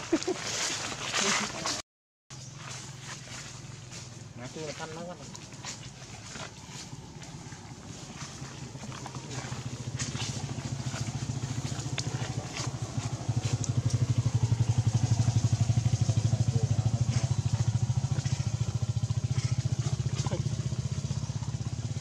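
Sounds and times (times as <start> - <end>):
small motorcycle engine running: 2.4 - 22.0.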